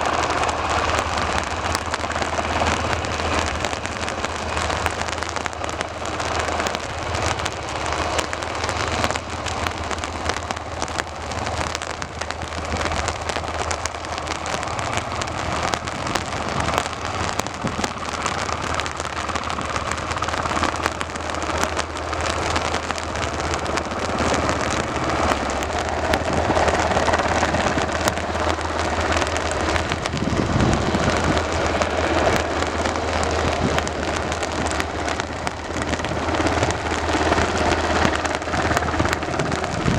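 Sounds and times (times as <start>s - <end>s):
low hum: 0.0s - 39.9s
rain on hard surfaces: 0.0s - 39.9s.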